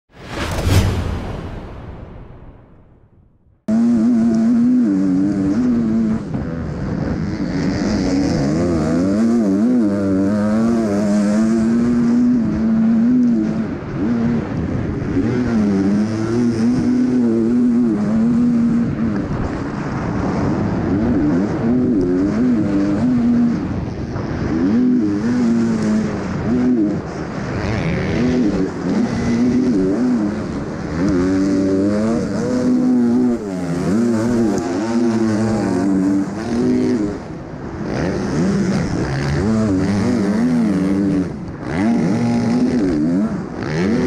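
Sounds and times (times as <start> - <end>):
motorbike engine revving: 3.7 - 44.0.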